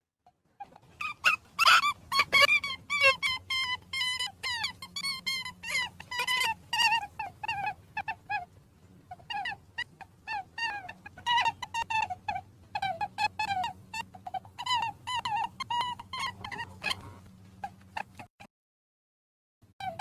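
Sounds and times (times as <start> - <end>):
rabbit squeaking: 0.6 - 18.3, 19.8 - 20.0.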